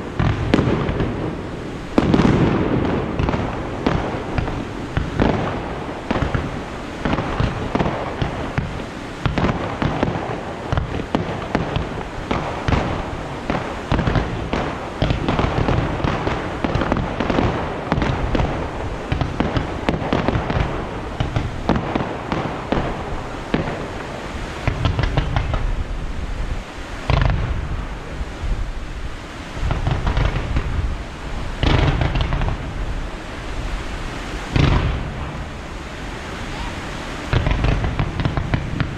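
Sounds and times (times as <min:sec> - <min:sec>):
deep fireworks booms: 0:00.0 - 0:38.9
fireworks bursts and crackling: 0:00.0 - 0:38.9.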